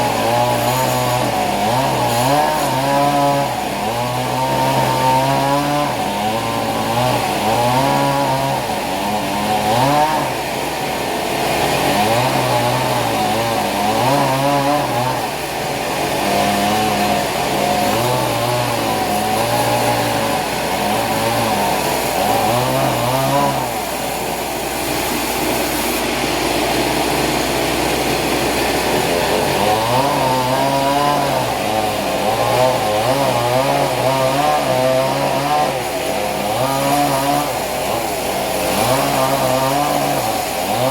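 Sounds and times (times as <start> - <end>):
small petrol engine revving: 0.0 - 40.9.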